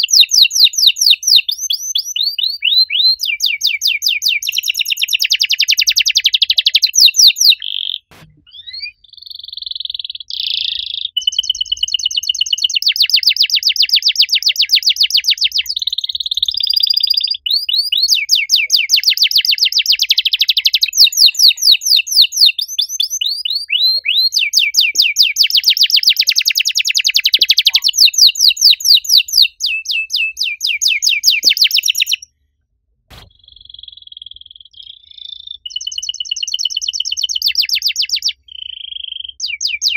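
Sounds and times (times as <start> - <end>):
canary singing trills: 0.0 - 32.3, 33.2 - 39.9.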